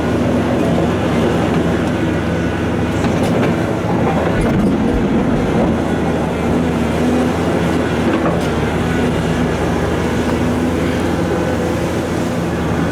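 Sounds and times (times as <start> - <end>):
heavy diesel machinery humming: 0.0 - 12.9.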